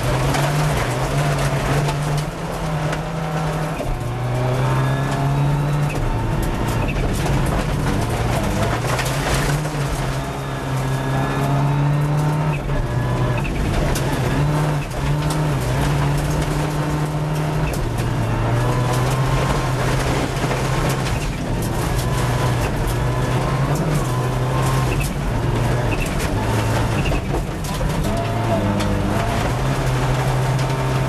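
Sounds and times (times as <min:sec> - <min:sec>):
car engine running hard: 0:00.0 - 0:31.0
gravel clattering against car: 0:00.0 - 0:31.0.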